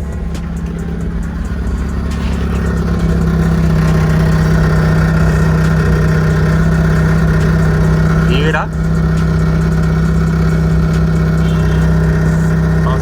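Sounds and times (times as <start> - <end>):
car engine idling: 0.0 - 13.0
exhaust rattle under car: 0.0 - 13.0.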